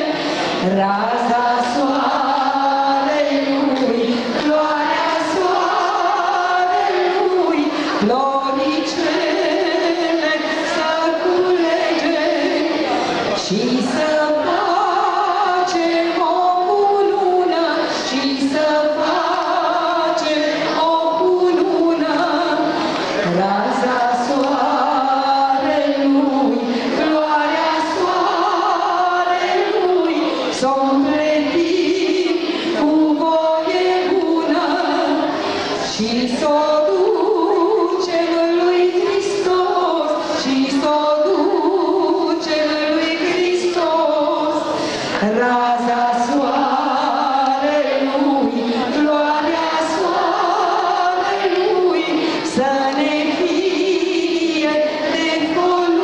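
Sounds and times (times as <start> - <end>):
woman singing into microphone: 0.0 - 56.0.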